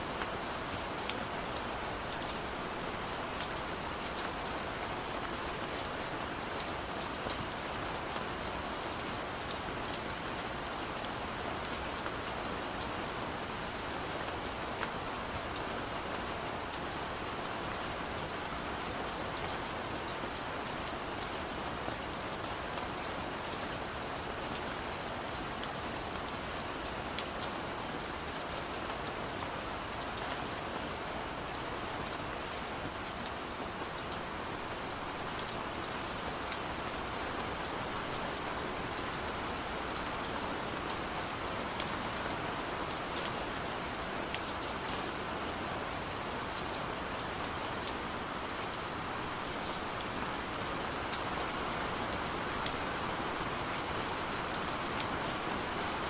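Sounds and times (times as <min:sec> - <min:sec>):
gentle rain falling: 0:00.0 - 0:56.0.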